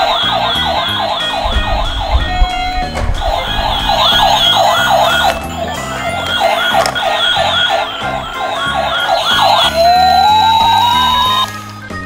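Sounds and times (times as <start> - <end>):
background music: 0.0 - 12.0
toy siren yelping: 0.0 - 12.0.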